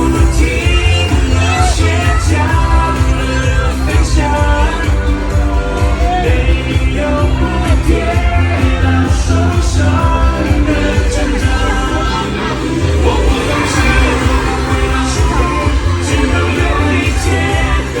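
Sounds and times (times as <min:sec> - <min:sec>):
upbeat parade song with singing: 0:00.0 - 0:18.0.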